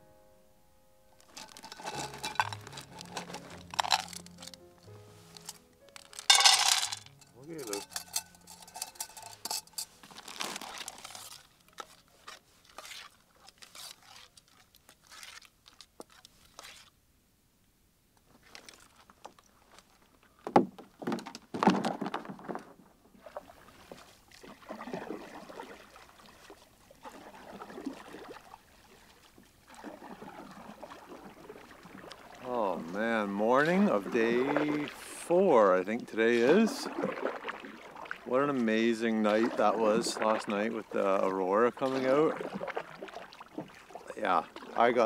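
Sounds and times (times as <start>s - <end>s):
canoe paddle strokes in water: 7.5s - 17.0s, 18.4s - 45.0s.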